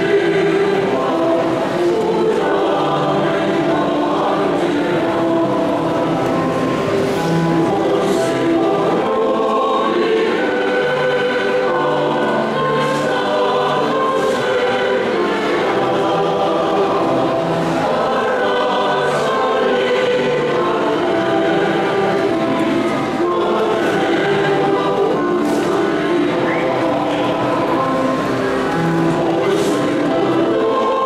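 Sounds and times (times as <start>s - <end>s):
mixed choir singing in harmony: 0.0s - 31.0s.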